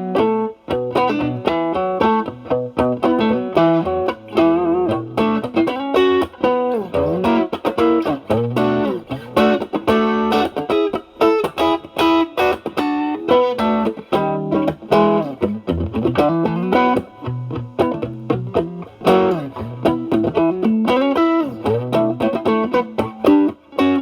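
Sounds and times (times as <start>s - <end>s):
overdriven electric guitar lead: 0.0s - 24.0s.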